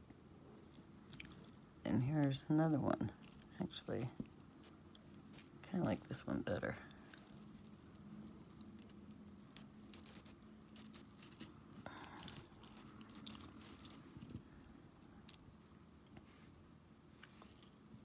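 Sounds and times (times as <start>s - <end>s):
beads clicking together: 0.6s - 16.2s.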